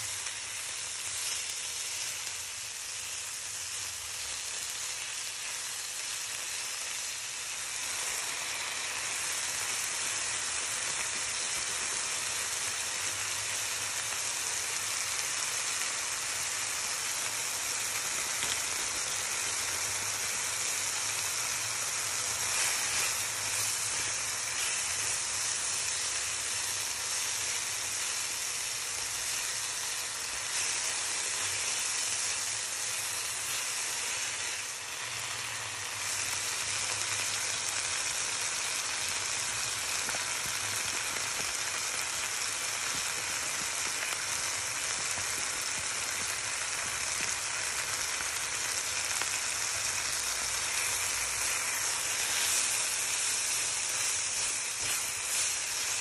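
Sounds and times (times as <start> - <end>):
chicken and vegetables sizzling in pan: 0.0 - 56.0.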